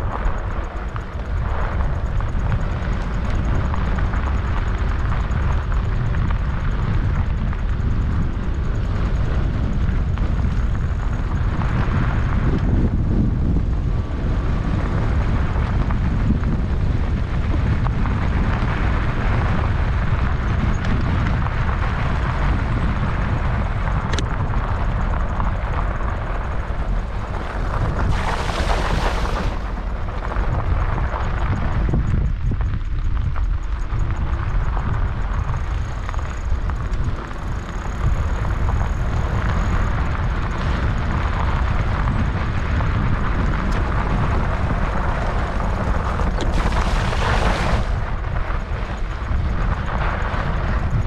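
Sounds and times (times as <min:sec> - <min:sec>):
wind rumbling on microphone: 0:00.0 - 0:51.0.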